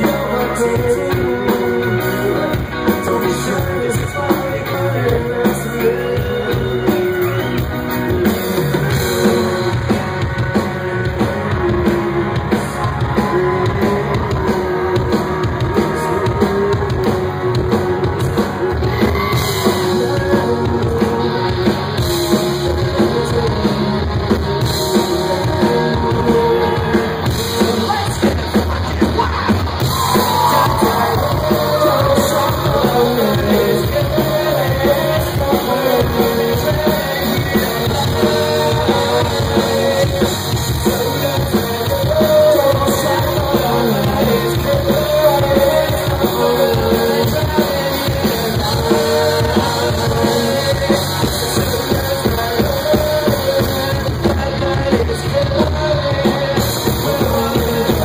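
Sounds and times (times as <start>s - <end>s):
bass: 0.0s - 58.0s
drum kit: 0.0s - 58.0s
electric guitars: 0.0s - 58.0s
person singing: 0.0s - 58.0s.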